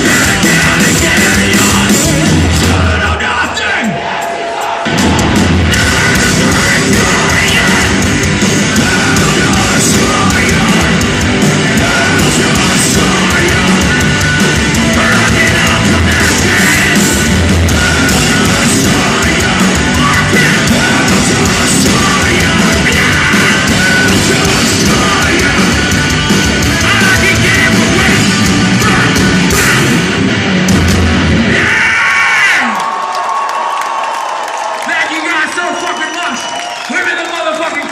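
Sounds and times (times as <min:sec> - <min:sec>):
bass guitar: 0:00.0 - 0:03.6, 0:04.9 - 0:32.6
pounding drums: 0:00.0 - 0:32.0
distorted electric guitars: 0:00.0 - 0:32.9.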